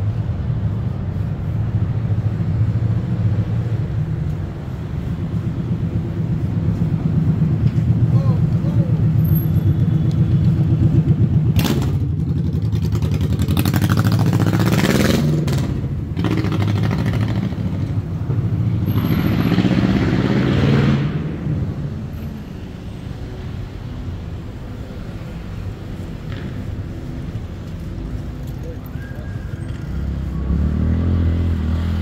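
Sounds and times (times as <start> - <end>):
motor vehicles passing: 0.0 - 32.0
steady traffic hum: 0.0 - 32.0.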